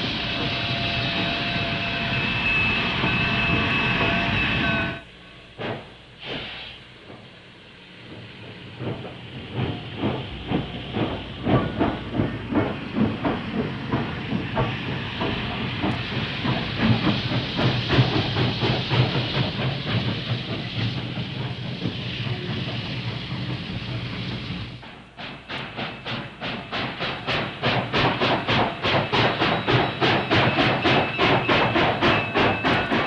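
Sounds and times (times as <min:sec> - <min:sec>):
steam hissing: 0:00.0 - 0:33.0
steam locomotive exhaust chuffs: 0:00.0 - 0:33.0.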